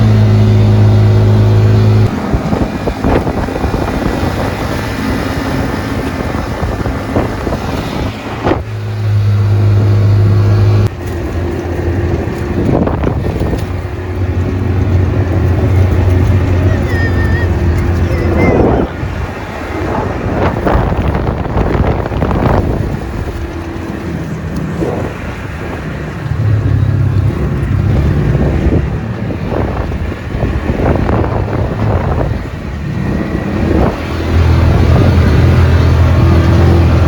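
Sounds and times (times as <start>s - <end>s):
vehicle engine running: 0.0s - 37.0s
wind buffeting microphone: 0.0s - 37.0s.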